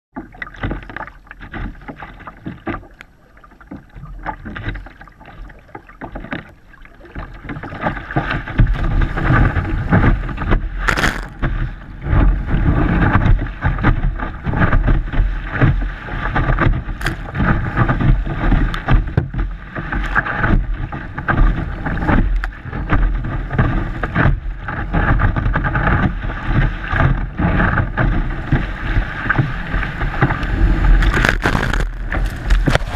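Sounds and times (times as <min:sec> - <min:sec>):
water splashing against kayak: 0:00.1 - 0:32.9
paddle strokes: 0:00.2 - 0:32.9
whitewater breaking over boat: 0:00.2 - 0:32.9.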